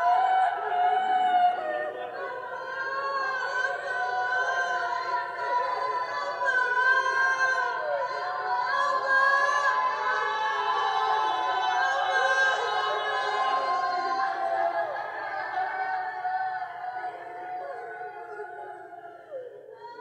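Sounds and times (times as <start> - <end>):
group singing worship song: 0.0 - 20.0.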